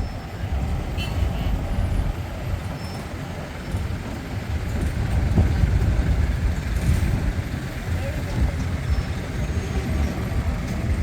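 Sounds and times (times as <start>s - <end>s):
heavy trucks driving past: 0.0s - 11.0s.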